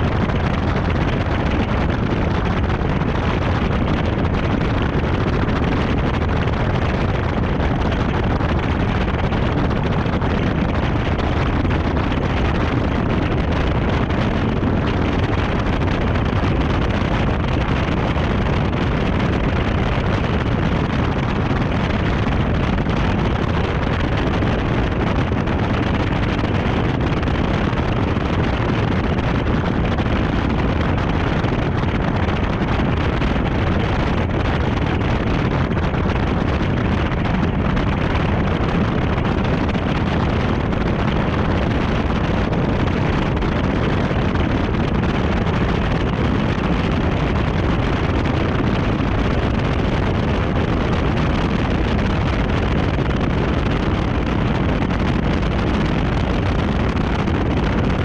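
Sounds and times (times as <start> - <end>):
wind buffeting camera: 0.0 - 58.0.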